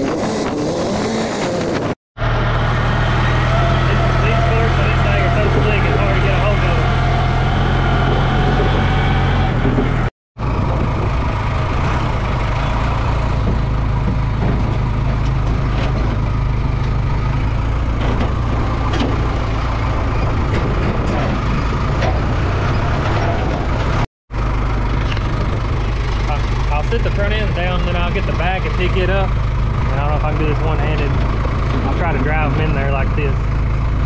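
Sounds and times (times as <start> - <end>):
tractor engine droning: 0.0 - 34.0.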